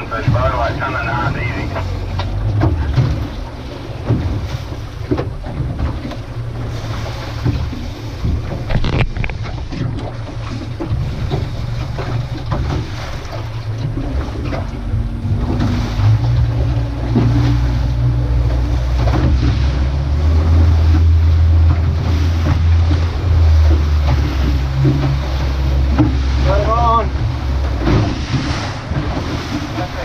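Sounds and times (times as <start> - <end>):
boat engine droning: 0.0 - 30.0
water rushing past hull: 0.0 - 30.0
wind buffeting microphone: 0.0 - 30.0.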